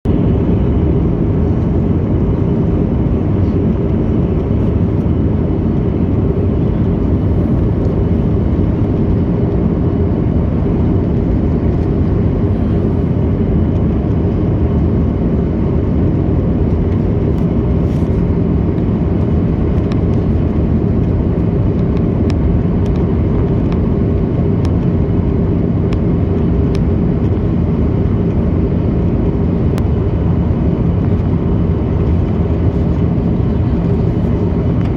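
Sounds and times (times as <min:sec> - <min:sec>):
airliner engine and airflow rumble: 0:00.0 - 0:34.9.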